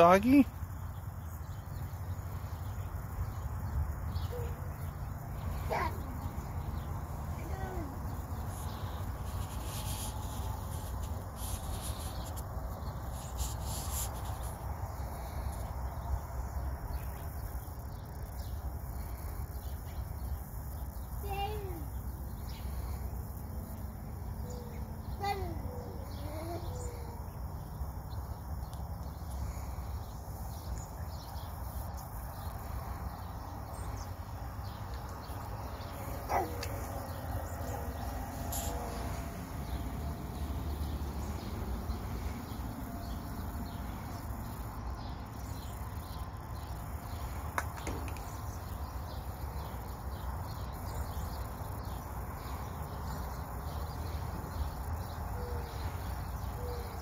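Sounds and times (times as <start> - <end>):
insects pulsing: 0.0 - 57.0.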